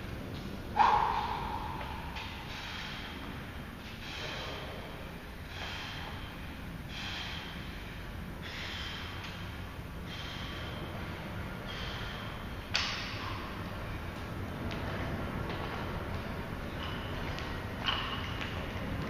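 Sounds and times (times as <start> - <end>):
heavy rhythmic breathing: 0.0 - 19.0.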